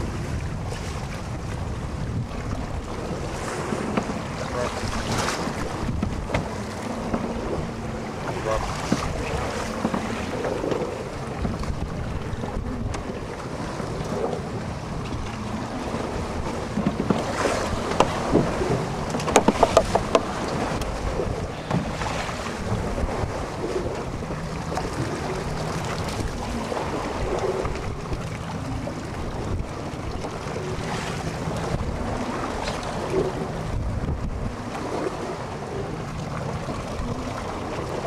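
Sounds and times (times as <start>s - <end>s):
water slapping boat: 0.0s - 38.0s
wind buffeting microphone: 0.0s - 38.0s.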